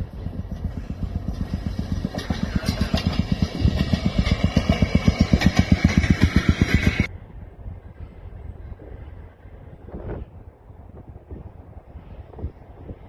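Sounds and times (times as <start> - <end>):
rail motorcar engine passing: 0.0 - 11.9.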